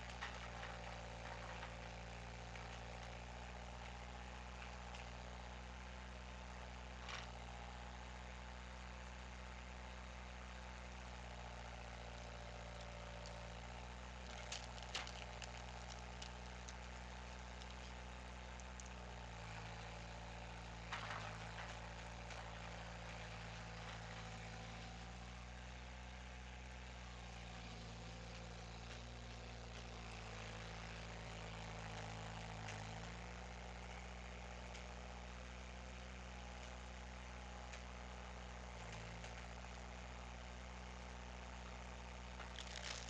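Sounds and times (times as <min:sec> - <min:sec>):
skid steer engine running: 0:00.0 - 0:43.0.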